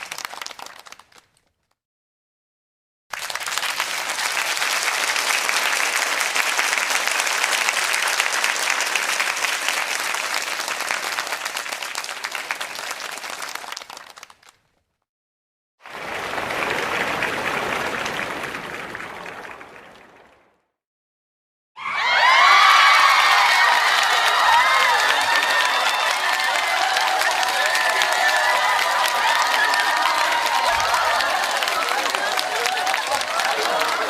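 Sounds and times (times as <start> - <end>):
audience applause: 0.0 - 1.4, 3.1 - 14.6, 15.8 - 20.6, 21.8 - 34.0.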